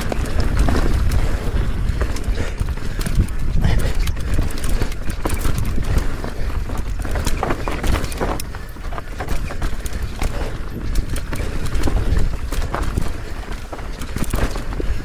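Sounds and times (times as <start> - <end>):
bike rattling over rocks: 0.0 - 15.0
wind rumble on microphone: 0.0 - 15.0.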